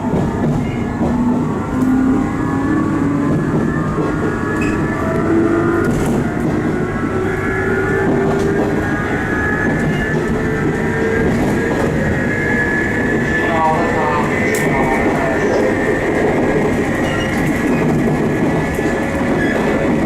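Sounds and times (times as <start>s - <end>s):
train motors whining: 0.0s - 20.0s.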